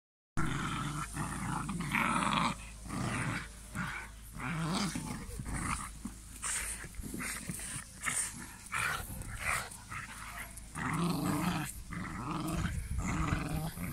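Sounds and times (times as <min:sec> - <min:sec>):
puppies growling: 0:00.4 - 0:13.9.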